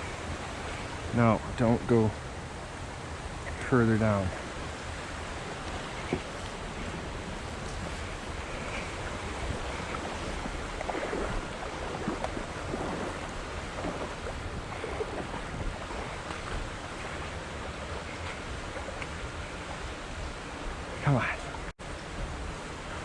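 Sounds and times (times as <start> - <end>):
water rushing: 0.0 - 23.0
wind buffeting microphone: 0.0 - 23.0.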